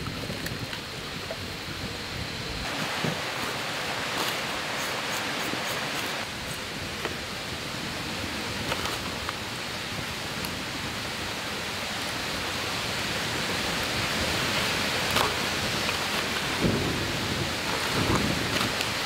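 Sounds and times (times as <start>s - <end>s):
campfire crackles: 0.0s - 19.0s
steady rushing outdoor noise: 0.0s - 19.0s.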